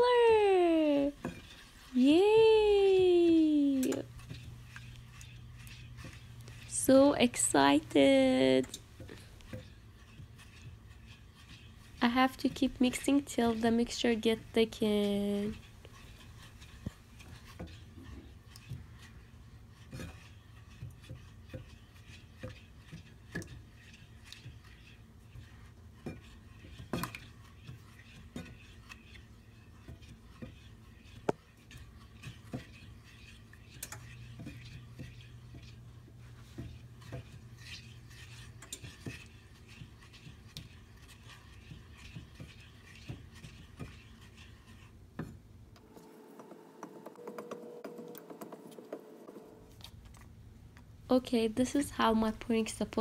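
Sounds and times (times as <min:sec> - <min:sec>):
spatula scraping saucepan: 0:00.0 - 0:46.2.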